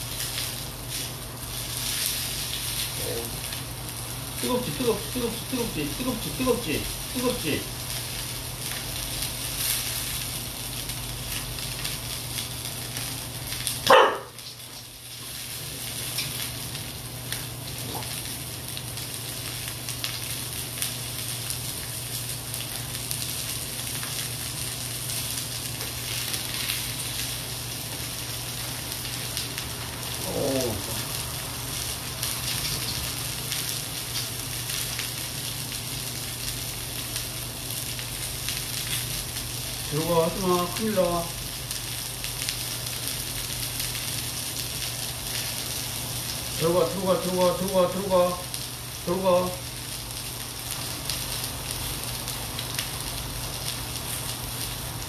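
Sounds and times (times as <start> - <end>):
meat sizzling on a grill pan: 0.0 - 55.0.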